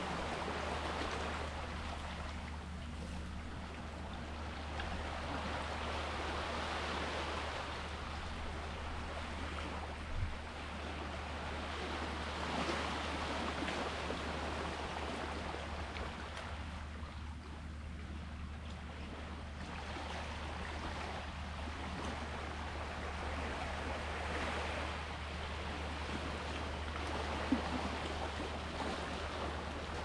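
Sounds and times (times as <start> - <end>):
sea waves washing ashore: 0.0 - 30.0.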